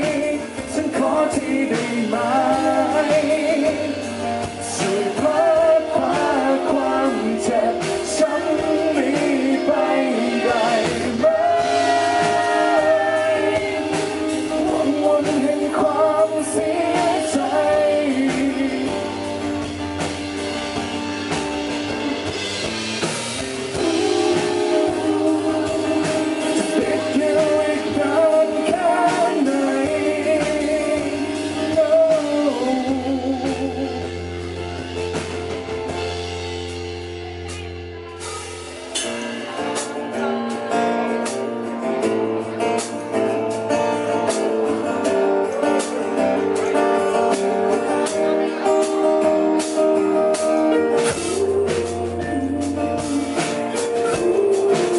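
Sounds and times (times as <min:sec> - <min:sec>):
rock band playing: 0:00.0 - 0:54.9
wavering lead guitar melody: 0:00.0 - 0:54.9.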